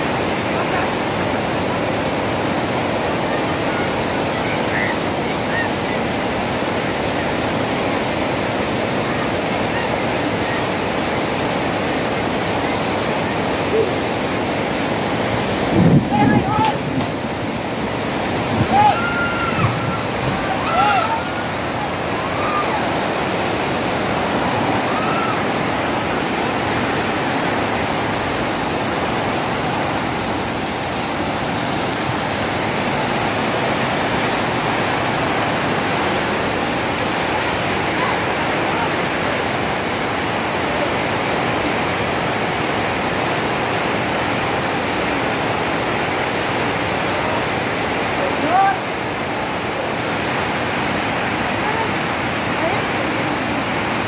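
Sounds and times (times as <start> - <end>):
flood water rushing: 0.0 - 54.0.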